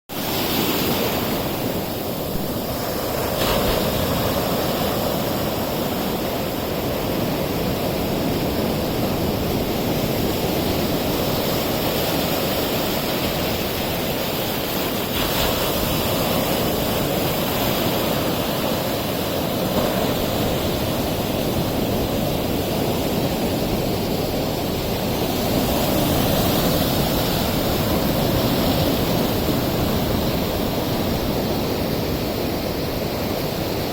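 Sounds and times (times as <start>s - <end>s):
sea waves breaking: 0.1s - 33.9s.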